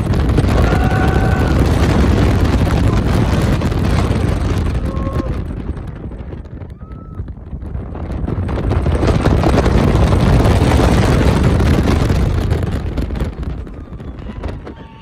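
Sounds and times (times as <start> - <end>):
roller coaster train rumbling: 0.0 - 15.0
wind rushing over microphone: 0.0 - 15.0.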